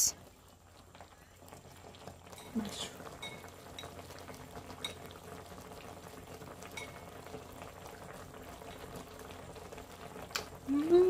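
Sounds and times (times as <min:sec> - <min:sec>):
broth bubbling in a pot: 0:00.0 - 0:11.0.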